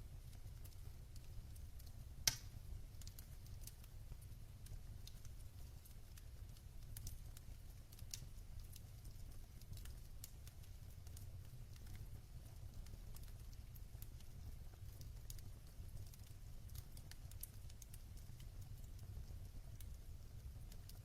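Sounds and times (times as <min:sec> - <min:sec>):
fire crackles and pop: 0:00.0 - 0:21.0
wood fire burning: 0:00.0 - 0:21.0.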